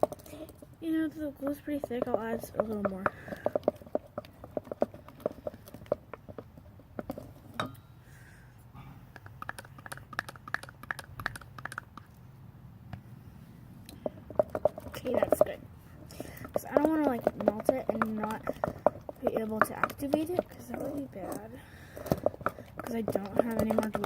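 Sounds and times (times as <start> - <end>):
small clicks and taps: 1.4 - 7.8, 9.1 - 12.2, 13.8 - 24.0.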